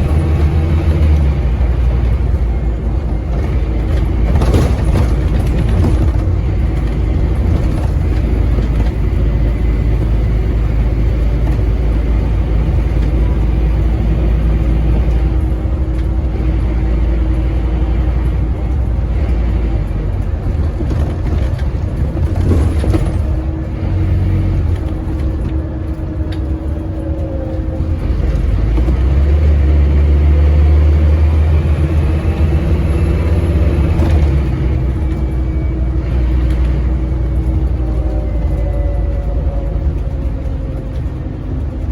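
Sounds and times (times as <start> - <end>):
bus engine pulling hard: 0.0 - 41.9.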